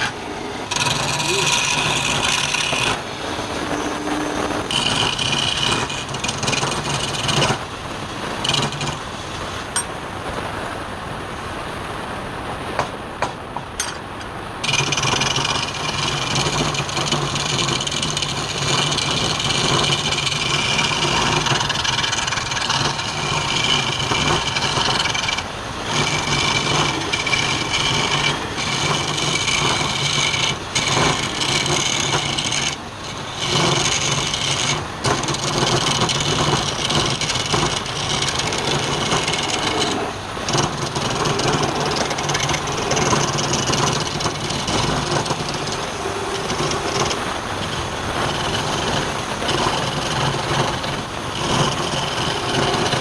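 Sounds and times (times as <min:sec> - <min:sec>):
rasping of wood being turned: 0:00.0 - 0:09.3, 0:14.6 - 0:53.0
wood lathe motor hum: 0:00.0 - 0:09.8, 0:14.6 - 0:53.0.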